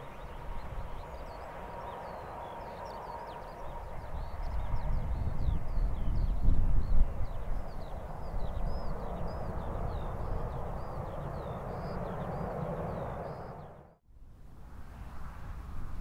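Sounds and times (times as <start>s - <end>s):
jet engines droning: 0.0s - 14.0s.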